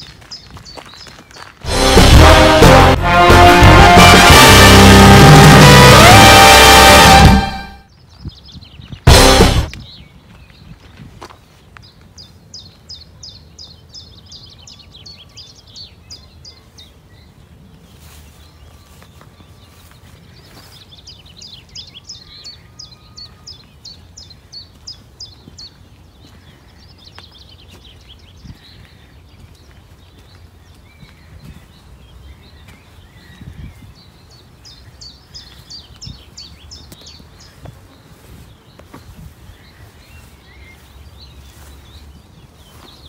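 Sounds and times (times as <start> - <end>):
songbird singing: 0.0 - 1.6, 7.7 - 43.0.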